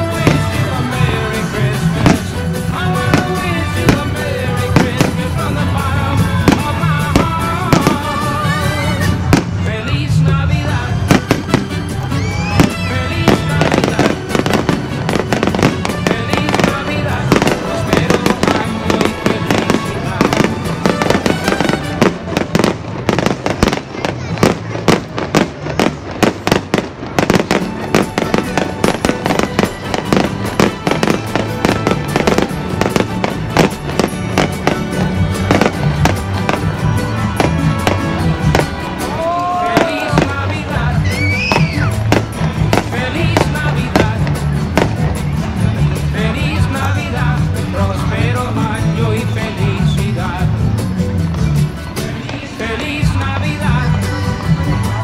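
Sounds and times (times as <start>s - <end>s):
fireworks bangs: 0.0s - 9.9s, 10.9s - 47.2s
music playing: 0.0s - 55.0s.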